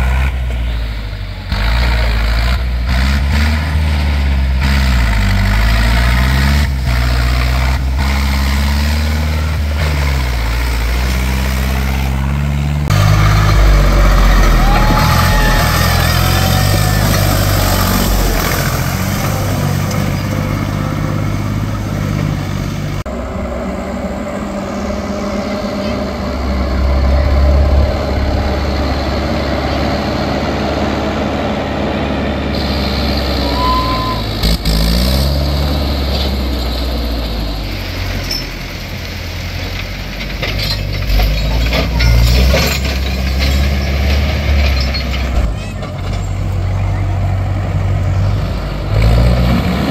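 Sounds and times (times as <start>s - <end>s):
tractor diesel engine revving: 0.0s - 49.9s.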